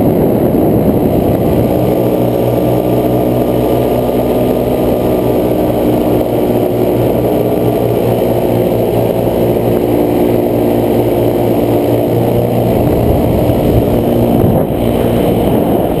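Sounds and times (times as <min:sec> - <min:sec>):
paramotor engine droning: 0:00.0 - 0:16.0.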